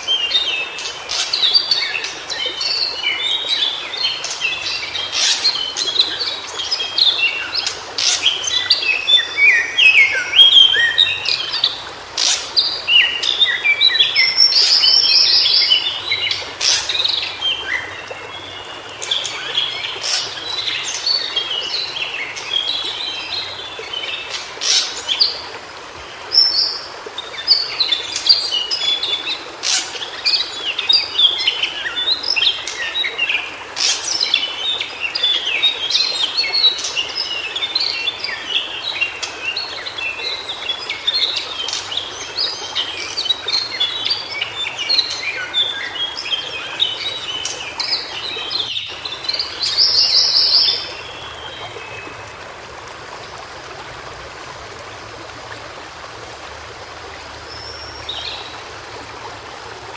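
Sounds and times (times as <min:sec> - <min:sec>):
steady outdoor hiss: 0:00.0 - 0:59.9.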